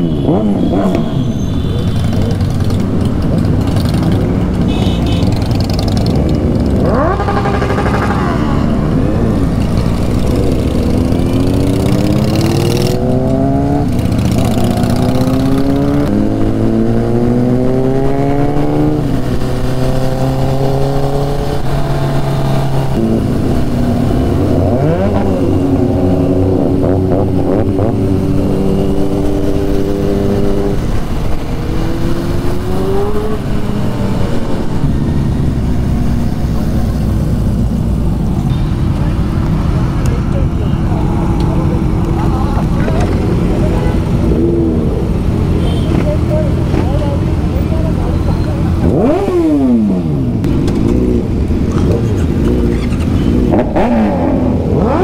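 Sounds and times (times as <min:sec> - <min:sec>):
vehicles passing: 0:00.0 - 0:55.0
motorcycle engine accelerating: 0:01.9 - 0:55.0.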